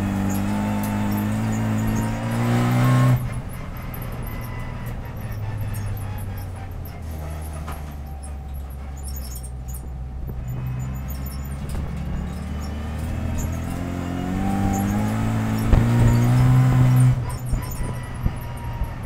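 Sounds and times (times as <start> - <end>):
race car engine: 0.0 - 19.0.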